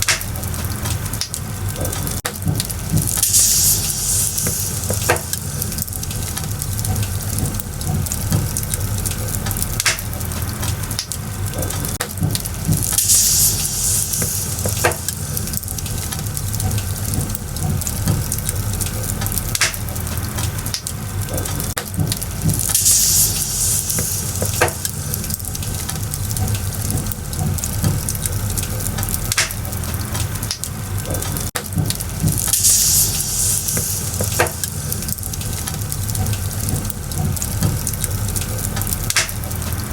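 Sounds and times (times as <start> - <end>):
high sizzling hiss: 0.0 - 21.4, 22.2 - 30.2, 31.8 - 39.9
wood fire crackling: 0.0 - 39.9.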